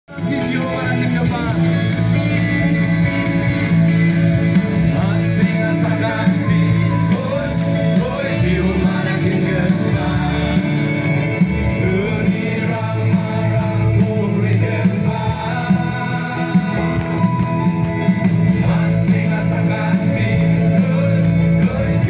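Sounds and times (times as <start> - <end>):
electric and acoustic guitars: 0.1 - 22.0
people singing: 0.1 - 22.0.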